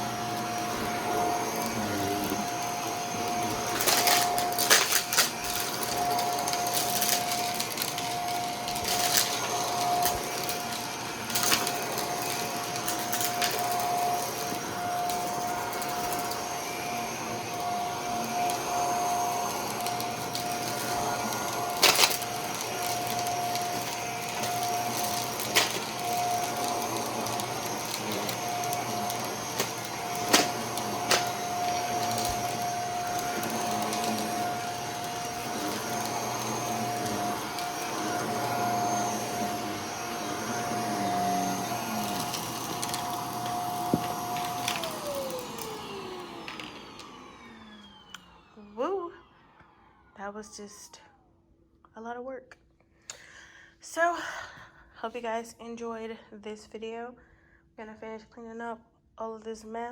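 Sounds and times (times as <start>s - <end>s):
vacuum cleaner whine: 0.0s - 51.3s.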